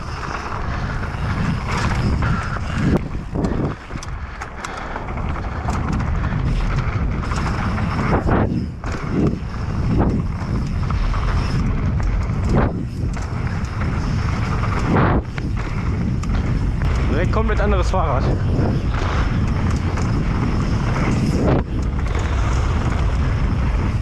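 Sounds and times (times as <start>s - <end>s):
bike knocking and rattling: 0.0s - 24.0s
tyres rumbling on trail: 0.0s - 24.0s
wind rushing over microphone: 0.0s - 24.0s.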